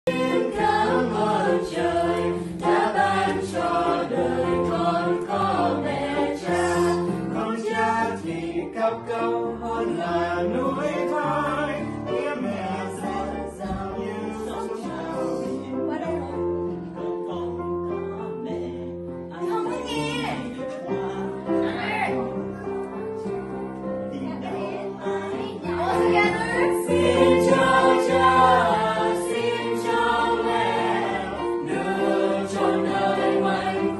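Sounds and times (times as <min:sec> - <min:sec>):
choir singing a hymn: 0:00.1 - 0:17.6, 0:20.5 - 0:33.9.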